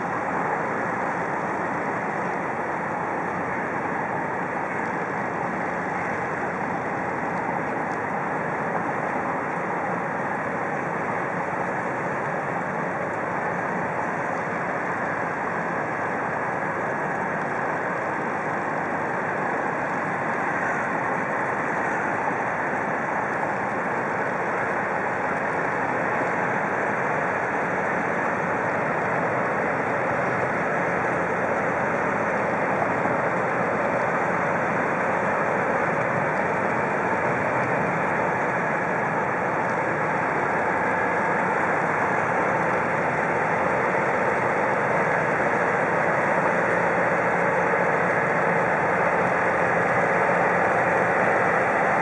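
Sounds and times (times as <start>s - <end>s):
boat diesel engine droning: 0.0s - 52.0s
water wash of barges: 0.0s - 52.0s.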